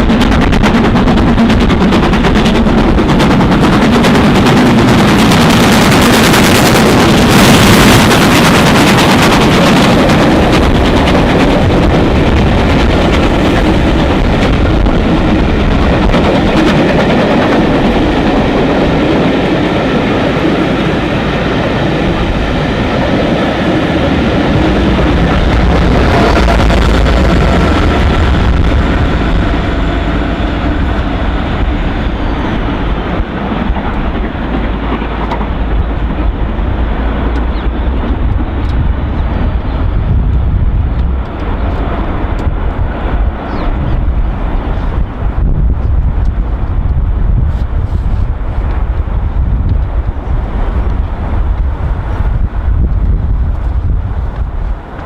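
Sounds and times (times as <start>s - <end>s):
deep rumble: 0.0s - 55.0s
diesel locomotive engine running: 0.0s - 55.0s.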